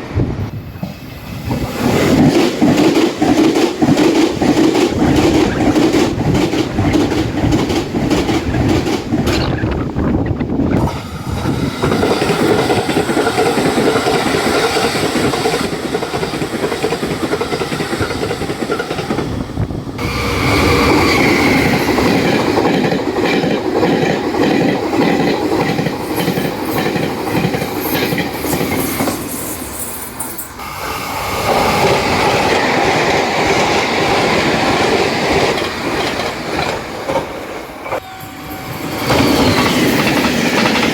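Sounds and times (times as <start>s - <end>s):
train wheels clattering over rail joints: 0.8s - 19.4s, 20.0s - 29.3s, 31.4s - 38.0s, 39.0s - 40.9s.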